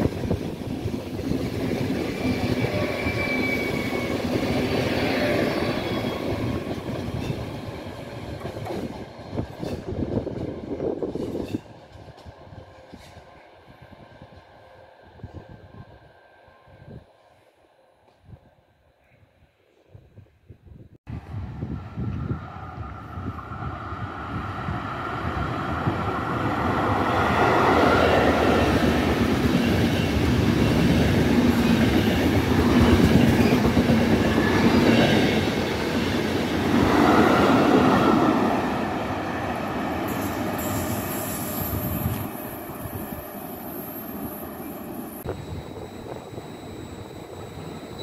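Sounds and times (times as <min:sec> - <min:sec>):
train rumble and wheel clatter: 0:00.0 - 0:17.4, 0:21.1 - 0:48.0.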